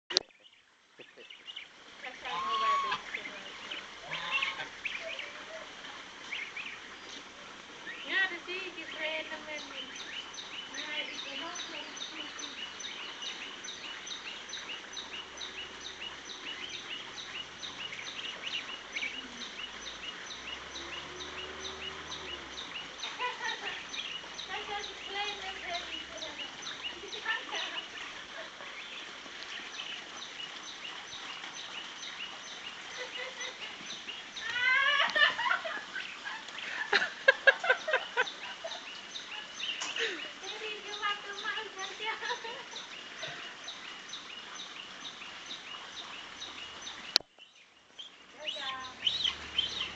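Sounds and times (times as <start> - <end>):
birds chirping: 0.0 - 49.9
gosling peeping: 0.1 - 7.2, 7.8 - 49.9.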